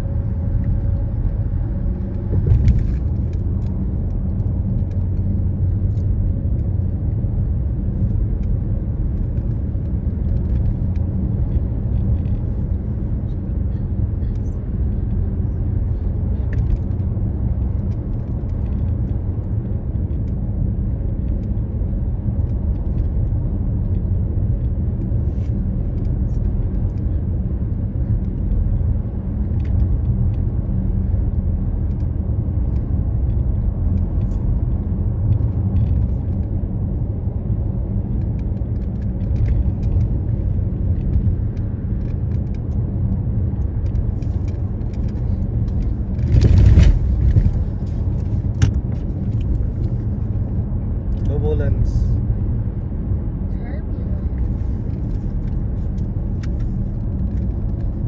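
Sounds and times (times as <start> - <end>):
tyres and engine rumble: 0.0 - 58.0.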